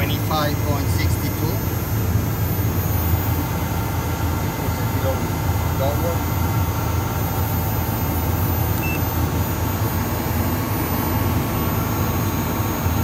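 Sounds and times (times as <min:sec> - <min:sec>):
air conditioner humming: 0:00.0 - 0:12.6.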